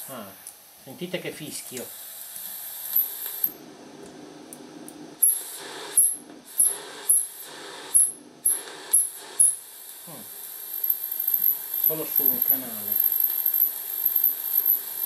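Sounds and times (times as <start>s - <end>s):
equalizer hiss: 0.0s - 14.1s.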